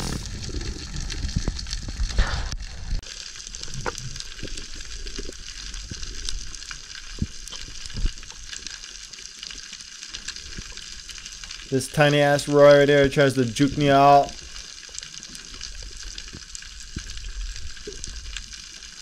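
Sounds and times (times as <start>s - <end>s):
snapping shrimp crackle: 3.1s - 19.0s.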